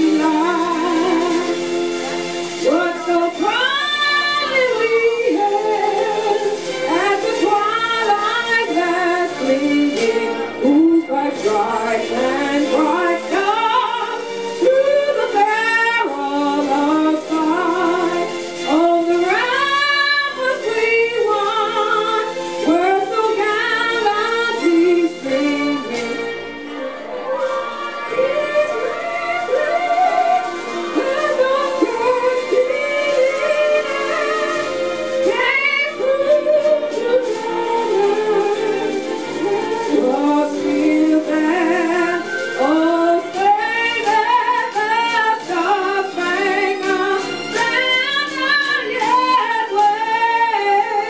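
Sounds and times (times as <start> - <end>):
woman singing into a microphone: 0.0 - 1.6, 2.6 - 26.4, 27.1 - 51.0.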